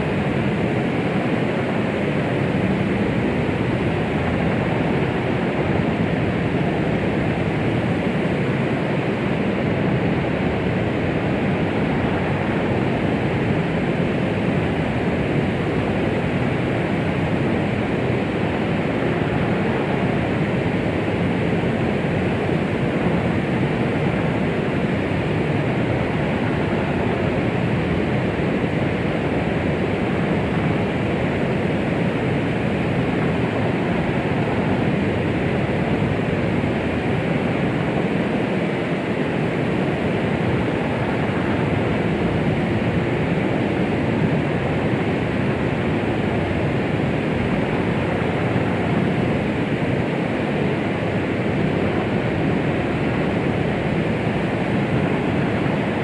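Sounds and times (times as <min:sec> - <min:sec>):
white noise rushing: 0:00.0 - 0:56.0.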